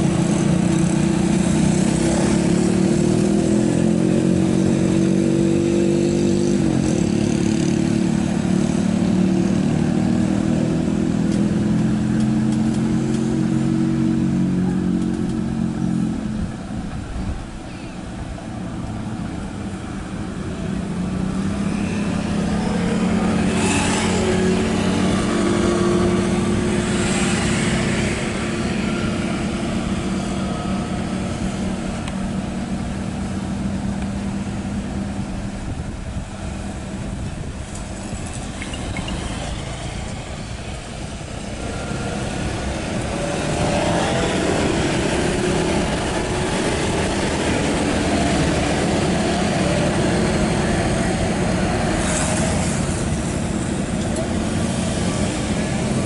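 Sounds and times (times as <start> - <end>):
road roller engine running: 0.0 - 56.0.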